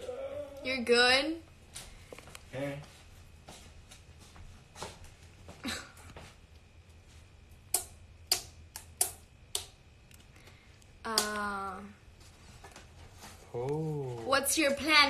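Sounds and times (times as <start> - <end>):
faint low room hum: 0.0 - 15.0.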